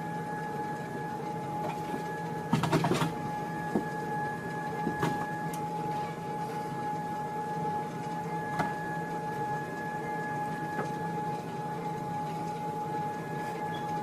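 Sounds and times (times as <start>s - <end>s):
machine hum with high tone: 0.0s - 14.0s.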